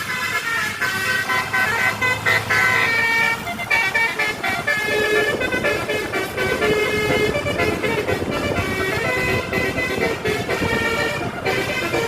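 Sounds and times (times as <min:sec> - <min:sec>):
bus engine and road noise: 0:00.0 - 0:12.0
multi-tone air horn tune: 0:00.0 - 0:12.0.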